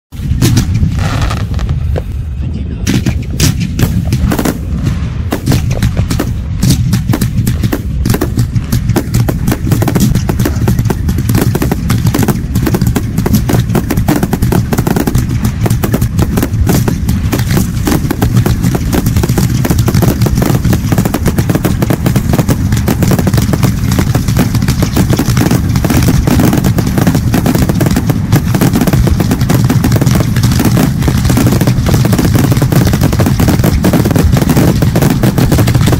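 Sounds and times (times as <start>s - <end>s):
fireworks bursting: 0.1s - 35.9s
heavy low rumble: 0.1s - 35.9s.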